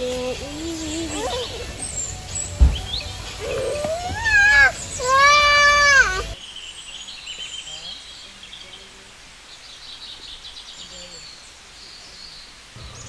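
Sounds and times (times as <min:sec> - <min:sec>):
birds chirping: 0:00.0 - 0:13.0
faint outdoor hiss: 0:00.0 - 0:13.0.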